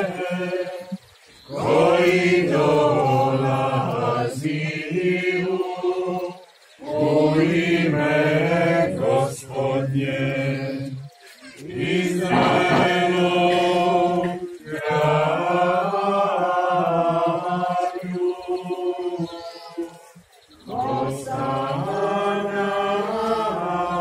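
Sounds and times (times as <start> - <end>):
liturgical chant singing: 0.0 - 24.0.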